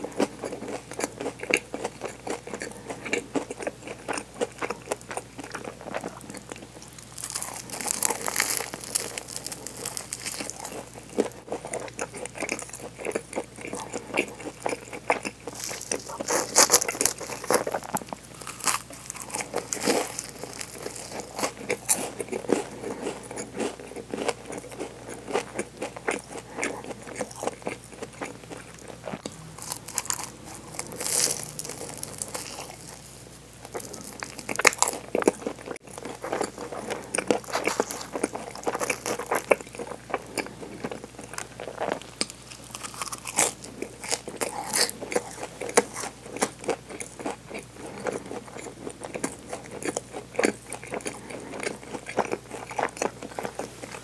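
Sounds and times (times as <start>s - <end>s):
crunching crusty bread: 0.0s - 54.0s.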